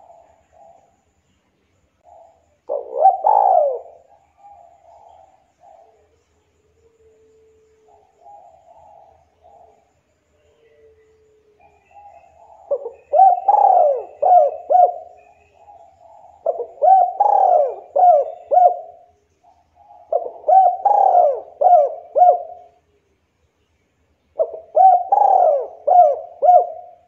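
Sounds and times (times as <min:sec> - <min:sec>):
dove cooing: 0:00.0 - 0:00.9, 0:02.0 - 0:09.9, 0:10.6 - 0:22.8, 0:24.4 - 0:27.0.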